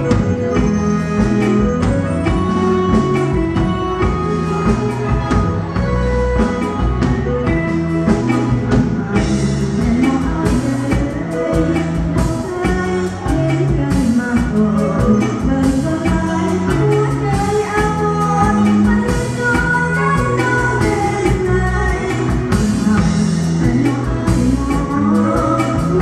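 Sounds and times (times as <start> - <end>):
drum kit beat: 0.0 - 26.0
live band playing dance music: 0.0 - 26.0.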